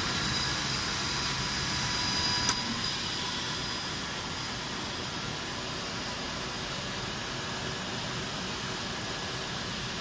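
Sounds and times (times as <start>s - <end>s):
mixing machine humming with whine: 0.0s - 10.0s.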